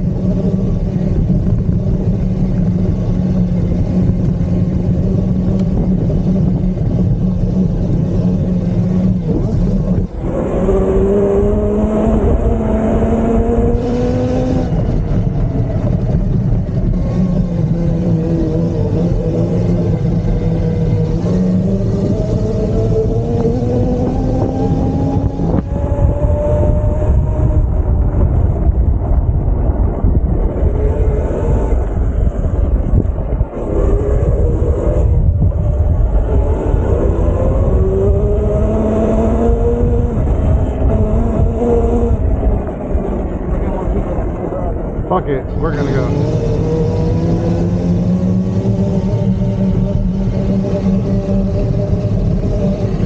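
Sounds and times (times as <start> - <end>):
motor whine rising in pitch: 0.0 - 44.5, 45.5 - 53.0
wind rumble on microphone: 0.0 - 53.0.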